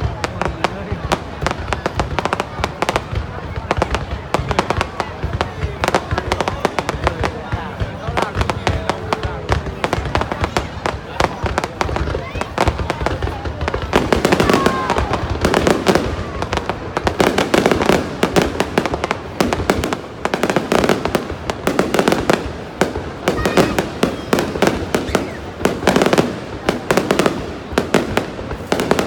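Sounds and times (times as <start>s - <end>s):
fireworks bursts and crackling: 0.0s - 29.0s.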